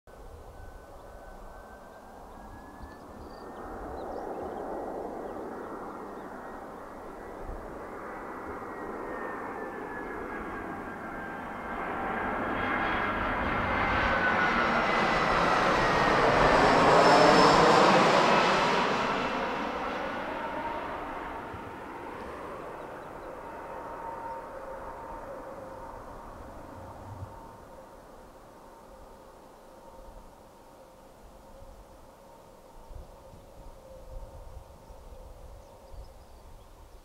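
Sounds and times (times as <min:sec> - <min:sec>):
jet engines rushing and whining: 0:00.2 - 0:35.6.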